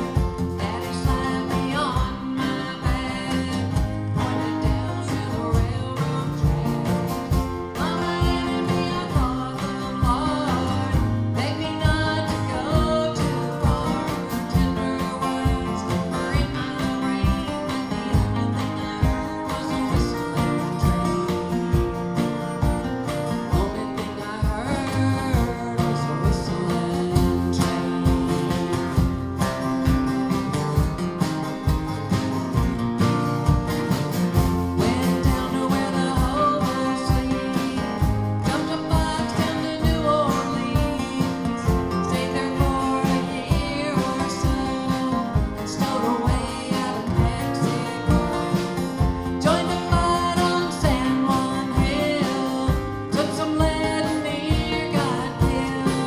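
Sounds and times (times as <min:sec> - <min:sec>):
woman singing: 0:00.0 - 0:31.0, 0:34.3 - 0:56.0
second guitar playing: 0:00.0 - 0:56.0
strummed acoustic guitar: 0:00.0 - 0:56.0.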